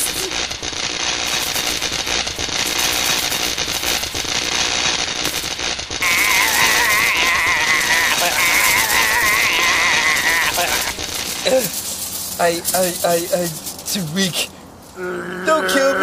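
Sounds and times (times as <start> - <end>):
electric crackling and zapping: 0.0 - 15.0.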